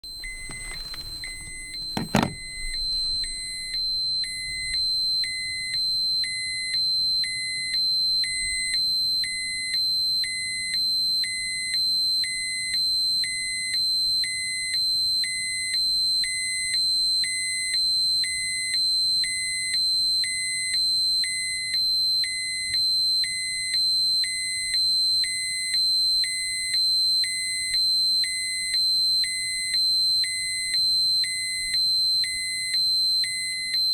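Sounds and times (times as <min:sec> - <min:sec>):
steady high alarm tone: 0:00.0 - 0:33.9.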